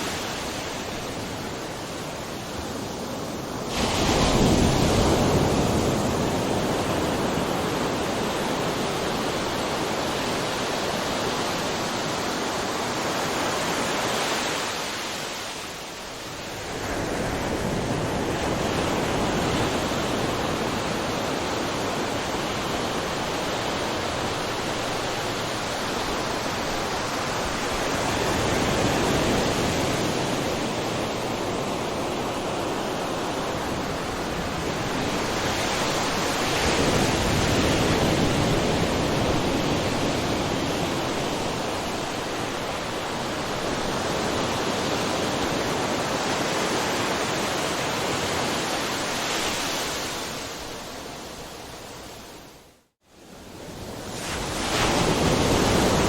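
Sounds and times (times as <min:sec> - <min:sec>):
ocean waves breaking: 0:00.0 - 0:52.0, 0:53.7 - 0:56.0.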